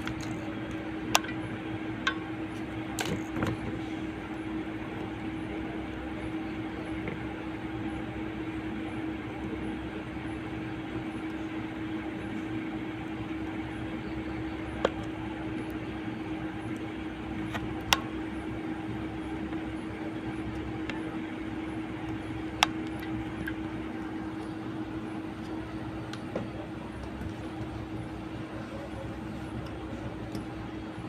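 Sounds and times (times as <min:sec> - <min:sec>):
small fan whirring: 0:00.0 - 0:31.0.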